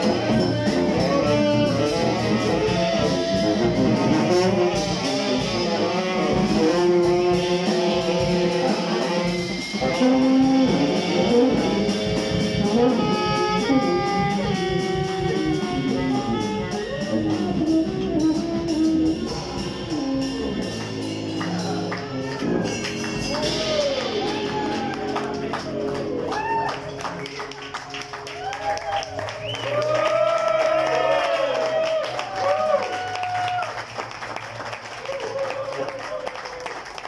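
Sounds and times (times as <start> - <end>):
saxophones playing jazz: 0.0 - 33.0
drum kit: 0.0 - 37.0.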